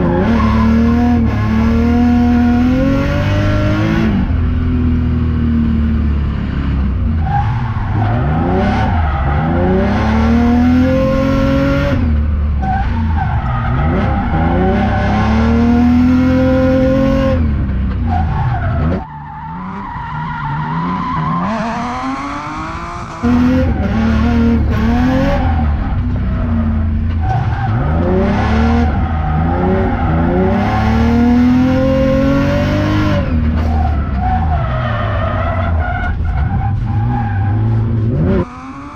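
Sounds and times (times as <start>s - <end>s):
tires skidding and squealing: 0.0s - 3.9s, 7.1s - 17.4s, 18.0s - 38.9s
car engine revving: 0.0s - 38.9s.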